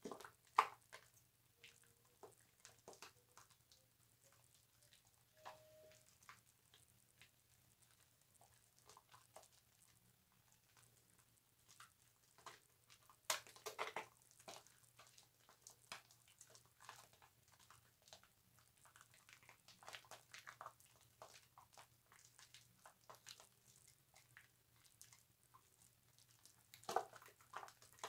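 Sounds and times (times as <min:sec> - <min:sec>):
soap lather squishing: 0:00.0 - 0:05.4, 0:06.1 - 0:28.0.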